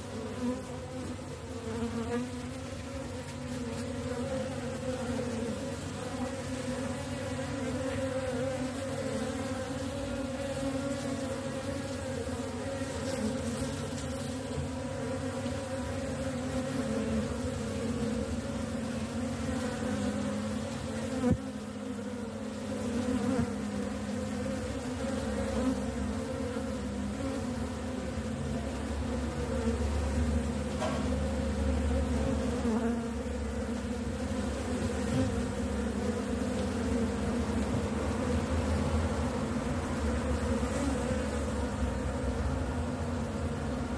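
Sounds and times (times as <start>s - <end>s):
honeybees buzzing: 0.0s - 43.9s.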